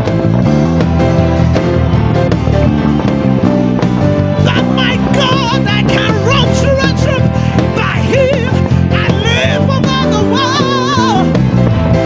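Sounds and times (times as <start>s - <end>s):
band music with steady beat: 0.0s - 12.0s
bass guitar: 0.0s - 12.0s.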